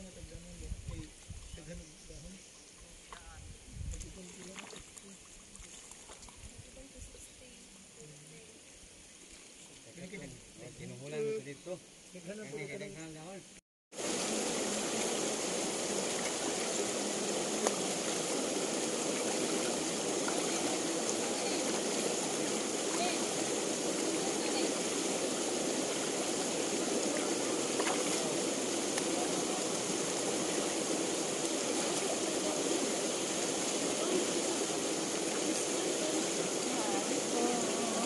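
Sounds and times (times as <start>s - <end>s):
flowing water rushing: 4.1s - 11.4s, 13.9s - 38.0s.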